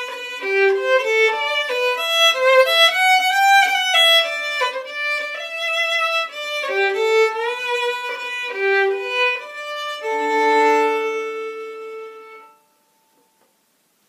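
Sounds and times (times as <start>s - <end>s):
solo fiddle playing: 0.0s - 12.8s.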